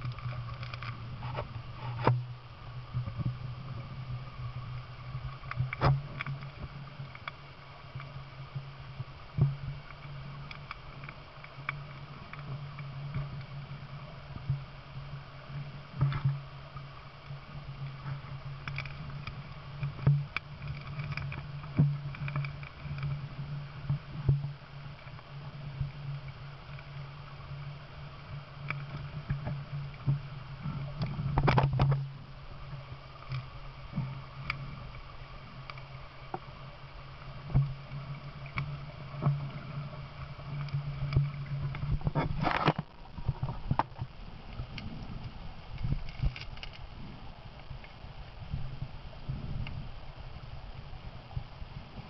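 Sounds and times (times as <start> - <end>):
underwater clicks and knocks: 0.0 - 48.0
low underwater hum: 0.0 - 52.0.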